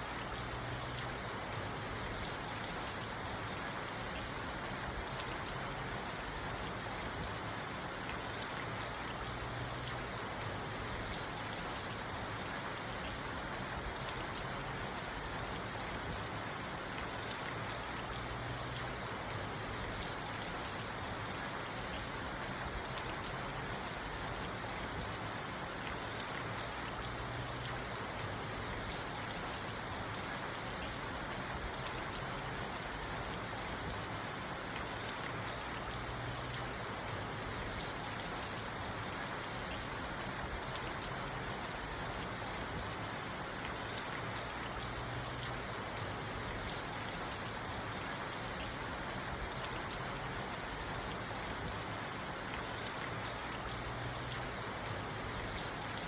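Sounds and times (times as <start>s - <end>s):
rain on a car roof: 0.0s - 56.0s.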